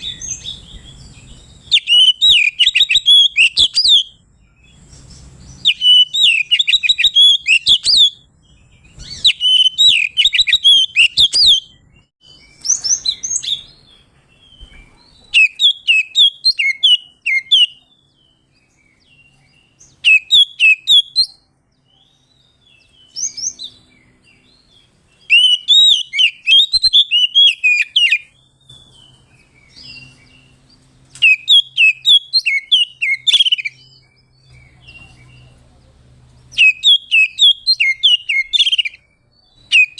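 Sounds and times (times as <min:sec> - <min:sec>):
bird singing whistled notes: 0:00.0 - 0:35.6, 0:36.5 - 0:39.9.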